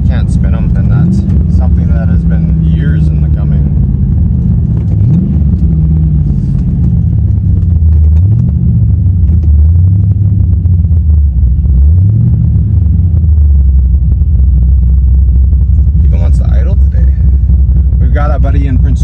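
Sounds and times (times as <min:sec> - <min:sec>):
car engine drone: 0:00.0 - 0:19.0.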